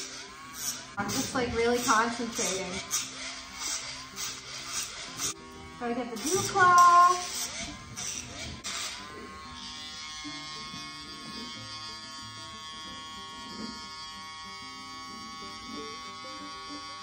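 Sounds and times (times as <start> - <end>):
electric nail grinder whining: 0.0 - 17.0.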